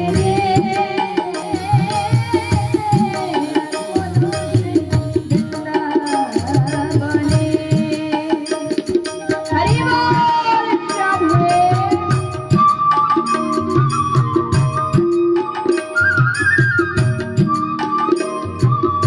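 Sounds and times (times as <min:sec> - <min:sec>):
harmonium melody: 0:00.0 - 0:19.0
tabla rhythm: 0:00.0 - 0:19.0.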